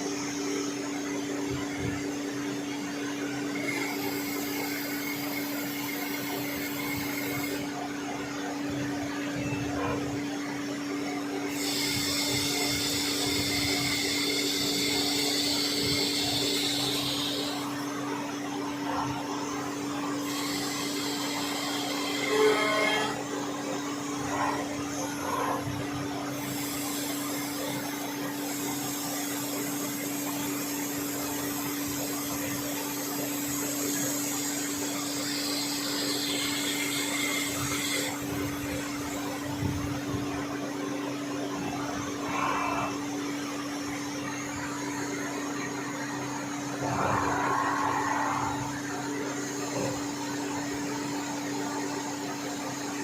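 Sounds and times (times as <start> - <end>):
lathe motor hum: 0.0 - 53.0.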